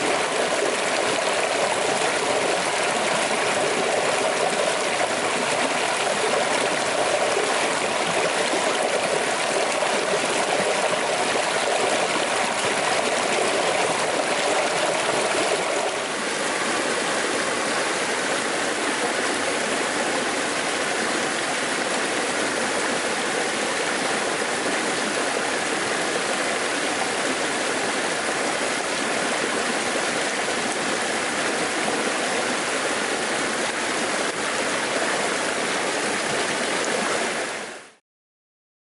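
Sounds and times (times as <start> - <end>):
creek water rushing over rocks: 0.0 - 38.0.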